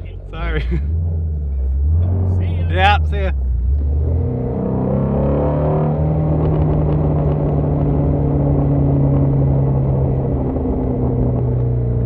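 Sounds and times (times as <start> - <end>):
car exhaust droning: 0.0 - 12.0.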